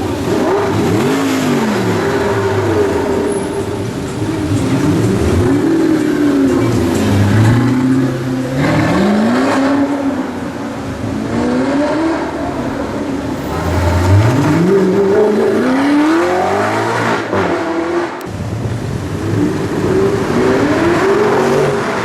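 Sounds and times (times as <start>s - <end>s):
supercar engine revving: 0.0s - 22.0s.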